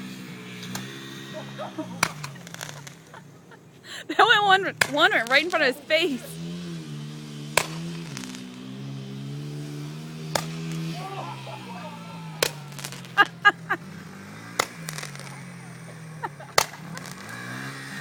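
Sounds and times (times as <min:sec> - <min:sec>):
dirt bike engine running: 0:00.0 - 0:18.0
firework rockets popping: 0:00.6 - 0:18.0.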